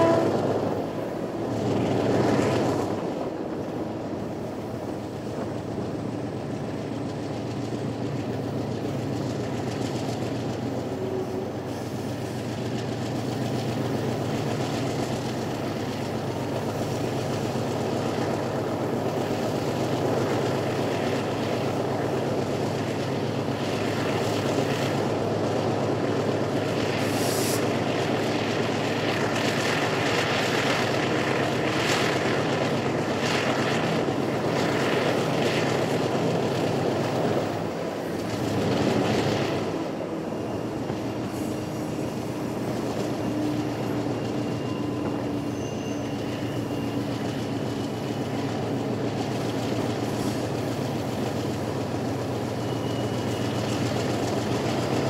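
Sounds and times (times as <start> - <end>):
diesel locomotive engine drone: 0.0 - 55.0
wheels rumbling on rail: 0.0 - 55.0.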